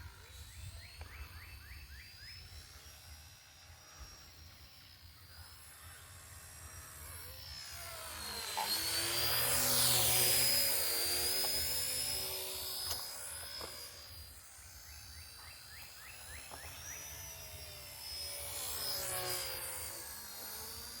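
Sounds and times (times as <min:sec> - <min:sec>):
rc helicopter rotor whine: 0:00.0 - 0:21.0.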